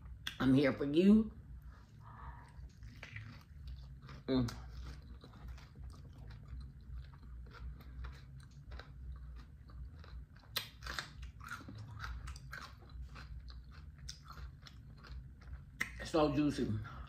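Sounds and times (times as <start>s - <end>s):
chewing and crunching lettuce wrap: 2.3s - 17.0s.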